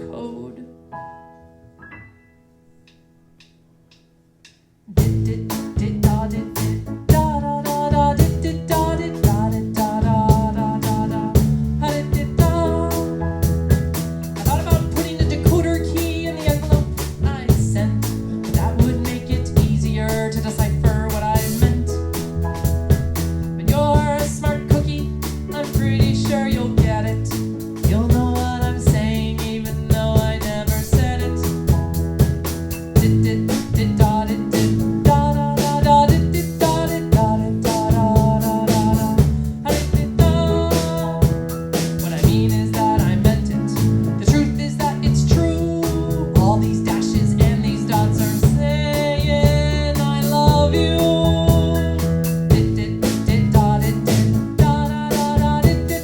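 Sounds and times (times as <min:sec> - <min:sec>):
drum kit beat: 0:02.9 - 0:56.0
band playing a song: 0:05.0 - 0:56.0.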